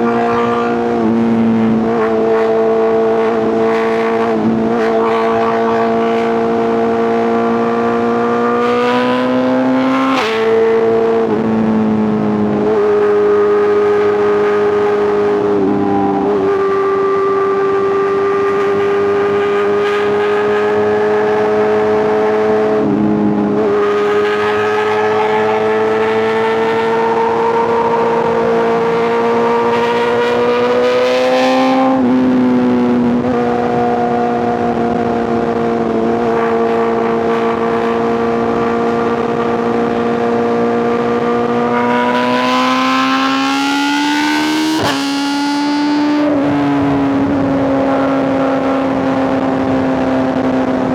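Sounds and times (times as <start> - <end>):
motorcycle engine revving high: 0.0 - 50.9.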